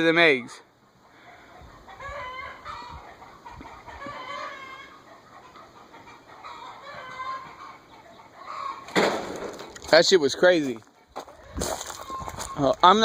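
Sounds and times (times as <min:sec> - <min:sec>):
chicken clucking: 0:01.0 - 0:12.8.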